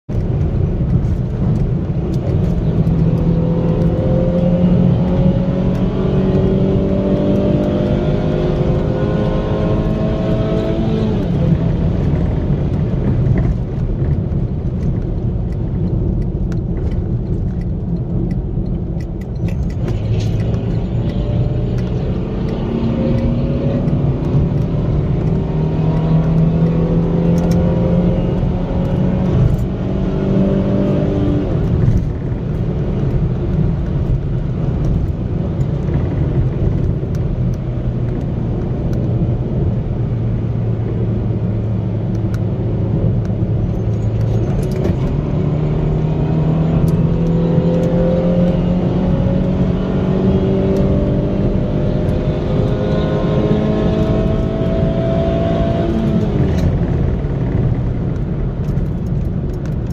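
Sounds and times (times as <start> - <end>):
car engine accelerating: 0.1 - 59.9
road rumble: 0.1 - 59.9.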